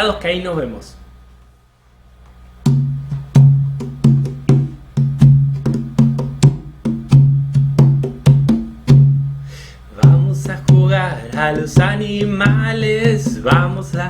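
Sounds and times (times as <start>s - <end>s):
conga drum played by hand: 2.6s - 14.0s.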